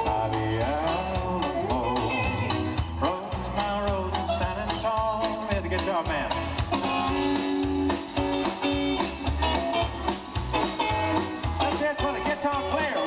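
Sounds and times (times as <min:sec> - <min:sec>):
country band playing instrumental: 0:00.0 - 0:13.0.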